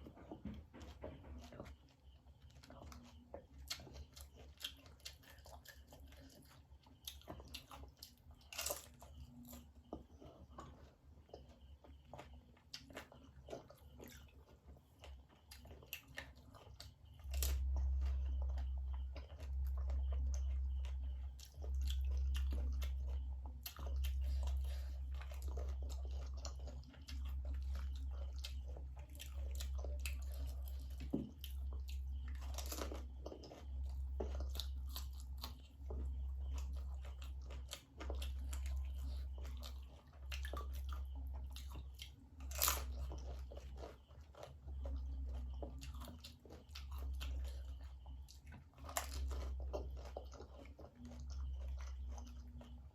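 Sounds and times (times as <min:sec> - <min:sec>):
crunching and chewing: 0:00.0 - 0:52.9.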